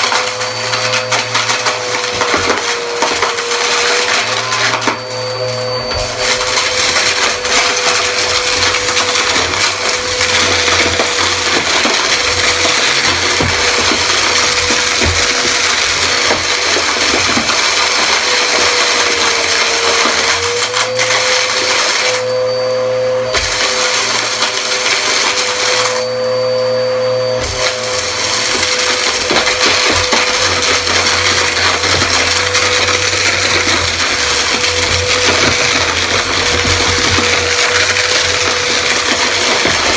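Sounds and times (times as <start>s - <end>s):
debris crunching in vacuum: 0.0s - 22.3s, 27.4s - 39.9s
vacuum cleaner motor whine: 0.0s - 39.9s.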